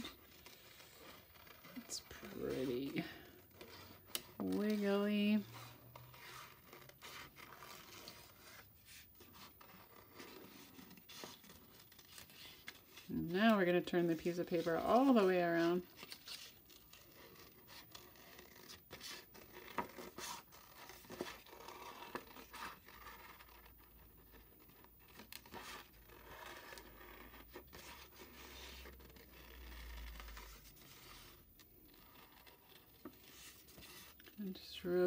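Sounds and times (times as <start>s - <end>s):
paper rustling: 0.0s - 35.0s.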